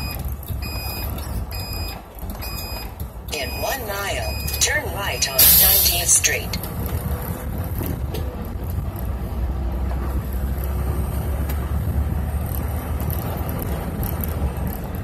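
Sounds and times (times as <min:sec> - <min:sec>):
bus engine low rumble: 0:00.0 - 0:15.0
road noise: 0:00.0 - 0:15.0.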